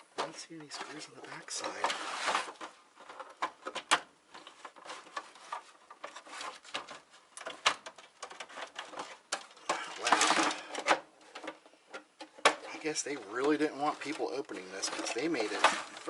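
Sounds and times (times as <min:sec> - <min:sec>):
plastic scraping: 0:00.0 - 0:16.0
hard plastic clicks and knocks: 0:02.6 - 0:16.0.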